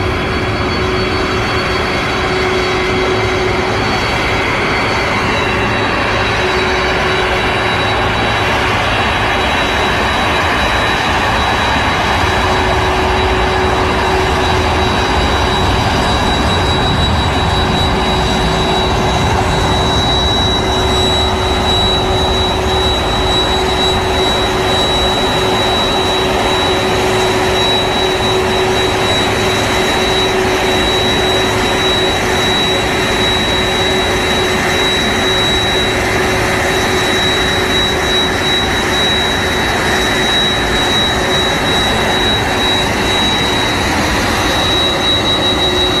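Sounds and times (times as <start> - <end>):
jet engines taxiing: 0.0 - 46.0.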